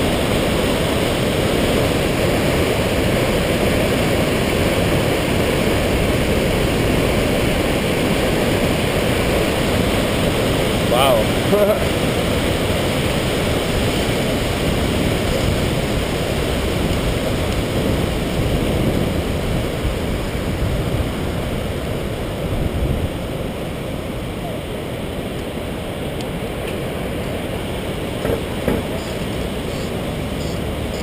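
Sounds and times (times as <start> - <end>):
roar of rushing water: 0.0 - 31.0.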